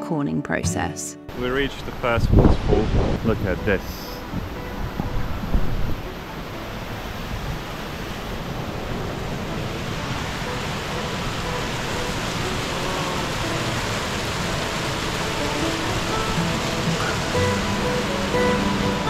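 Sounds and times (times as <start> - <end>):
waterfall rushing: 1.3 - 19.0.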